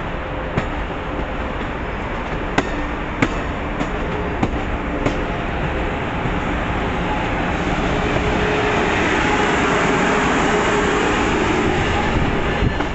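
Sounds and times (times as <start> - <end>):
train wheels and engine rumbling: 0.0 - 12.9.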